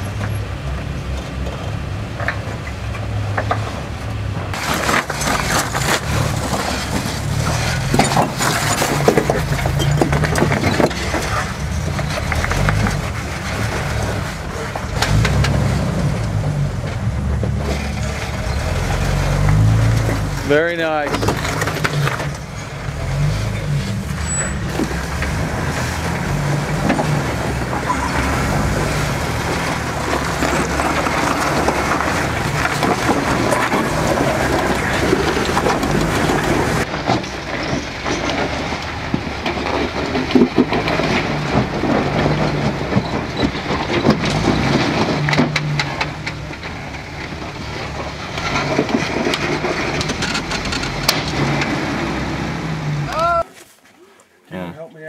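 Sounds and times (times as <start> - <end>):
knocks and clatter: 0.0 - 52.4
off-road engine under load: 0.0 - 53.5.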